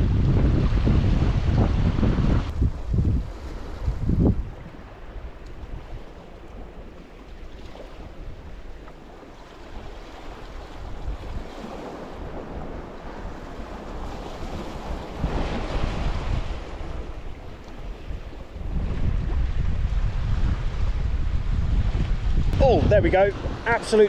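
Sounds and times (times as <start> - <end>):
wind buffeting microphone: 0.0 - 24.0
sea waves on rocky shore: 0.3 - 24.0.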